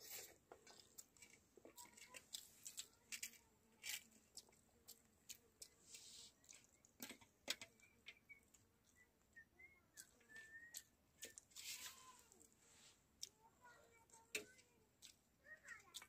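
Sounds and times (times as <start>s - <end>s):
person chewing: 0.0s - 7.8s, 9.9s - 16.0s.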